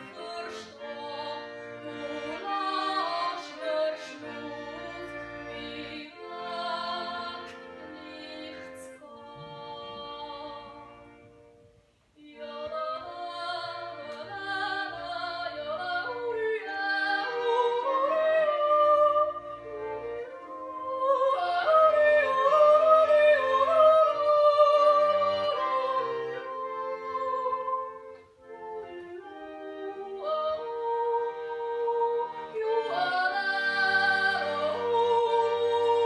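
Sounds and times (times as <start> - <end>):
woman singing with vibrato: 0.0 - 5.0, 5.6 - 10.8, 12.2 - 19.4, 20.6 - 28.1, 29.8 - 36.0
instrumental accompaniment: 0.0 - 36.0.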